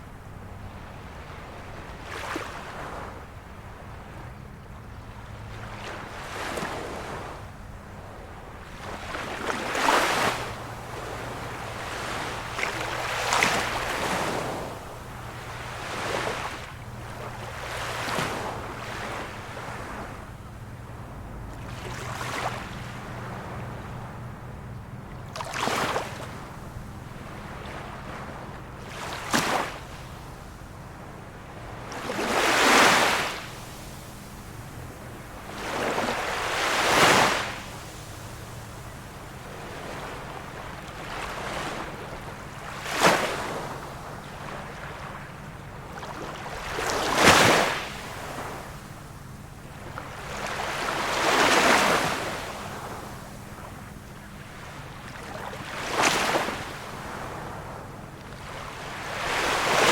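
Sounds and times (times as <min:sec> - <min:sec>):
small waves splashing on shore: 0:00.0 - 0:59.9.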